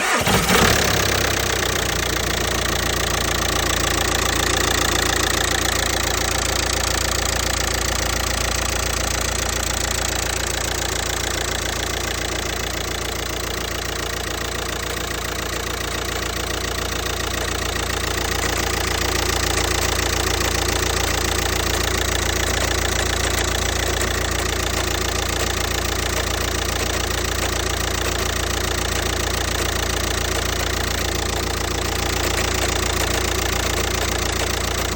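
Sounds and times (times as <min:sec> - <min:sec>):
diesel engine idling with knocking: 0:00.0 - 0:34.9.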